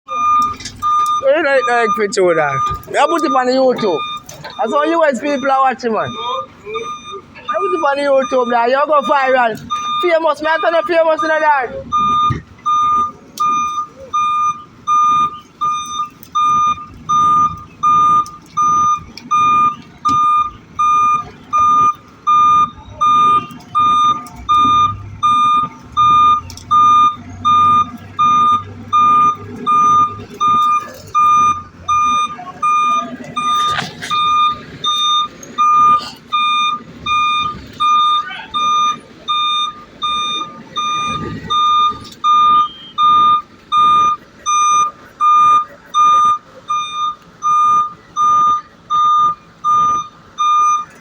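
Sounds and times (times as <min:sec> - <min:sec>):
engine rumbling: 0:00.0 - 0:51.0
reversing alarm beeping: 0:00.1 - 0:51.0.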